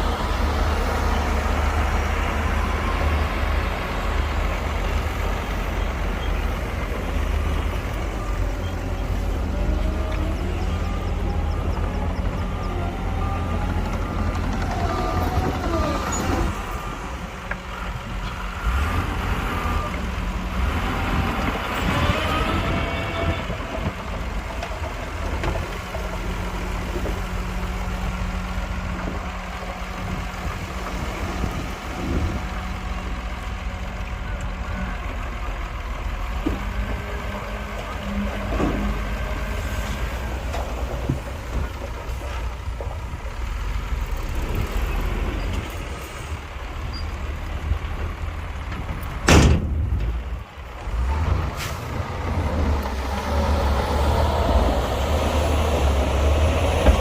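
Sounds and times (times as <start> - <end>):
diesel machinery engine drone: 0.0 - 57.0.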